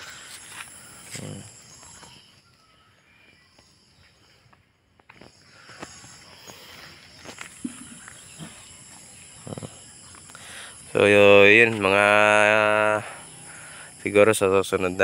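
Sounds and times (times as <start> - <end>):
high insect chorus: 0.0 - 15.0.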